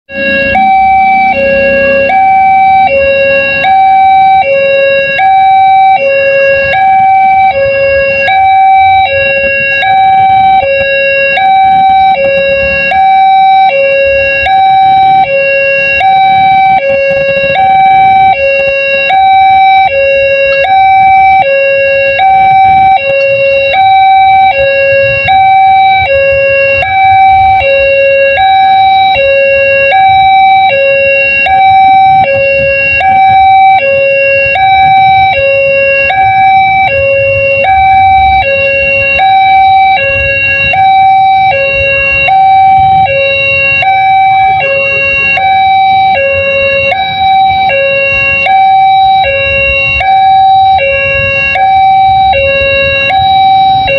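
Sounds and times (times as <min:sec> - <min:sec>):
level-crossing alarm two-tone chime: 0:00.0 - 0:53.9
road traffic hum: 0:00.0 - 0:53.9.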